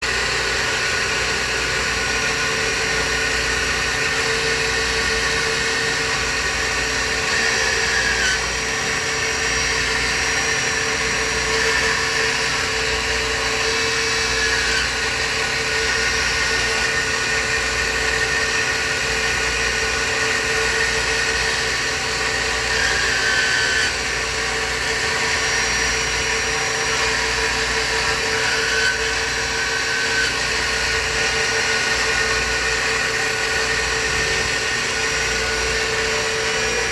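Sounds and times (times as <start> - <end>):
lathe machining whine: 0.0 - 36.9.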